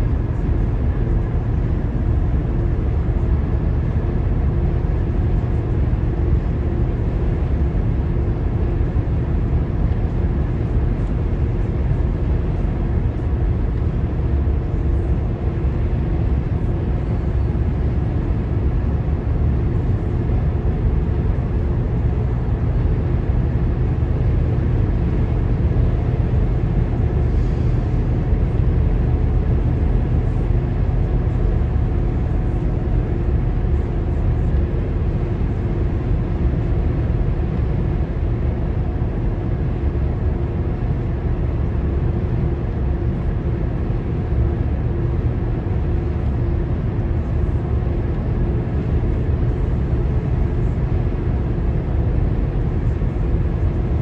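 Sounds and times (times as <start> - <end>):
car road noise from inside: 0.0 - 54.0.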